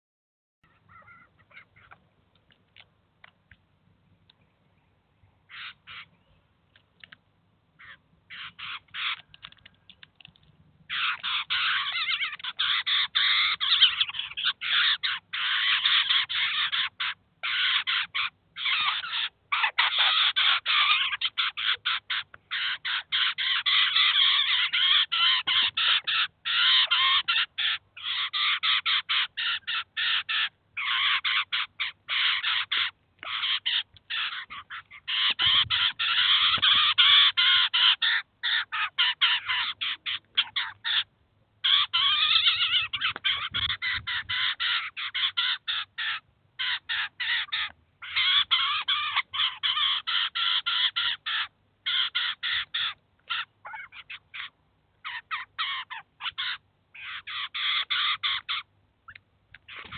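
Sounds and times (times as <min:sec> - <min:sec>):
fledgling birds begging calls: 0:00.6 - 0:02.5, 0:05.4 - 0:59.9.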